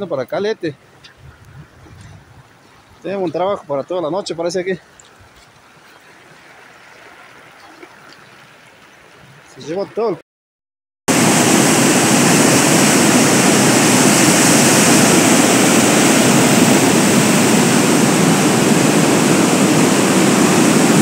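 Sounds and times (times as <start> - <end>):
flood water roaring over rocks: 0.0 - 10.2, 11.1 - 21.0.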